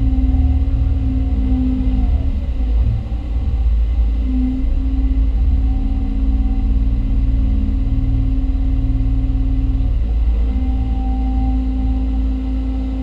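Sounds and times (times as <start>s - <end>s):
excavator engine drone: 0.0s - 13.0s
hydraulic whine: 0.0s - 13.0s.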